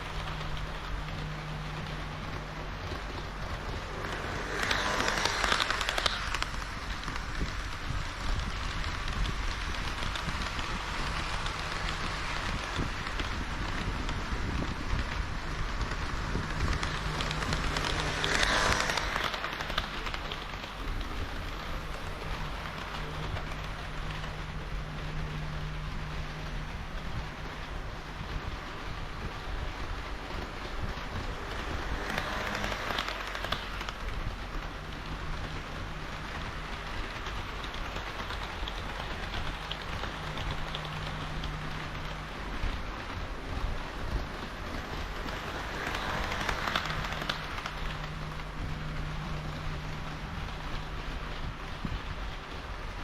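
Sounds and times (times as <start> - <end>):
low motor hum: 0.0 - 53.0
model train wheels rattling on rails: 0.0 - 53.0.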